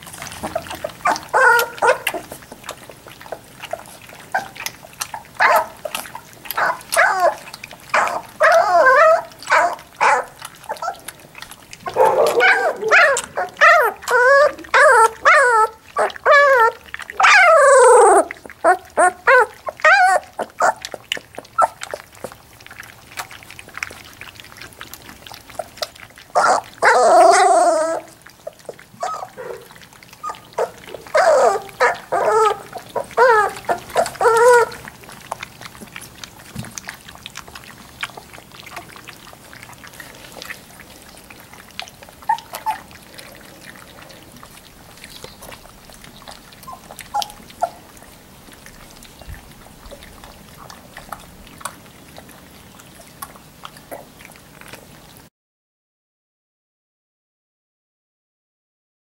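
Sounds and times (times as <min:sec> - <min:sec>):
puppies whining: 0:00.0 - 0:54.8
puppies lapping and slurping: 0:00.0 - 0:55.3.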